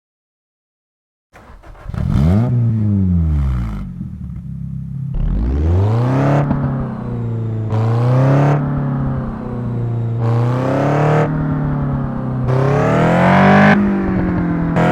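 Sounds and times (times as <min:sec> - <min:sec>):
car engine revving: 0:01.4 - 0:14.9.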